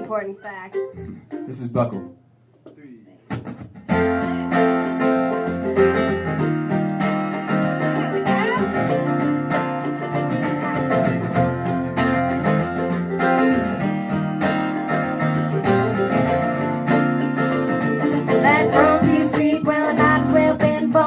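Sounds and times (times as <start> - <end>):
strummed acoustic guitar: 0.0 - 2.1, 3.3 - 21.0
acoustic country band playing: 0.0 - 2.2, 3.2 - 21.0.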